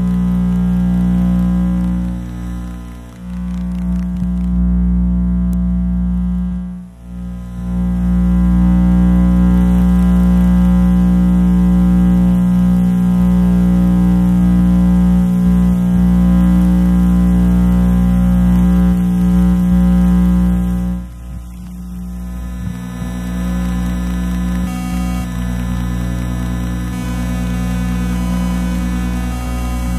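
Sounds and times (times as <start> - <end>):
electrical interference buzz: 0.0 - 29.9.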